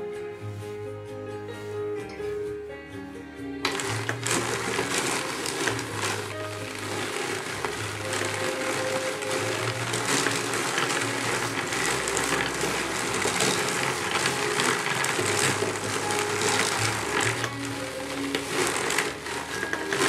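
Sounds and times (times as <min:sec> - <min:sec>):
hand-cranked drum carder whirring: 0:03.6 - 0:20.0.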